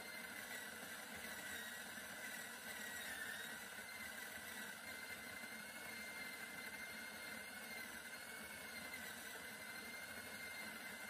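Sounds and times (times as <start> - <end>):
coffee grinder whining: 0.0 - 11.0.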